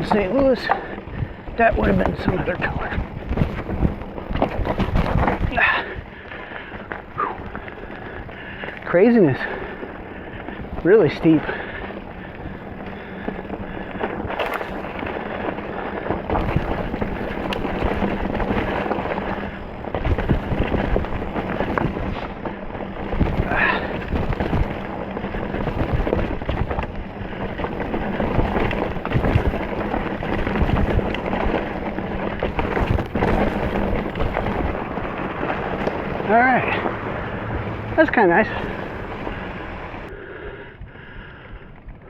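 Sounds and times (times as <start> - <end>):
bike rattling over rocks: 0.0 - 40.1
wind buffeting microphone: 0.0 - 42.0.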